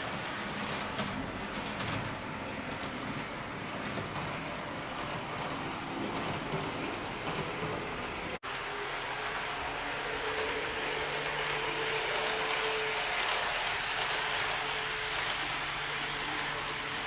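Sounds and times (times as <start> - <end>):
model train wheels rolling on rail: 0.0 - 17.0.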